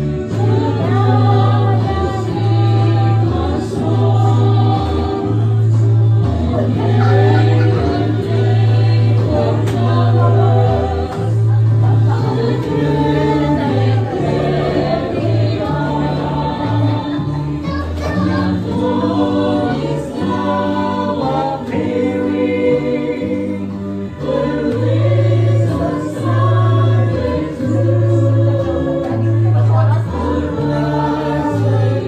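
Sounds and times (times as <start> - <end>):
group of voices singing: 0.0 - 32.0
musical accompaniment with bass: 0.0 - 32.0.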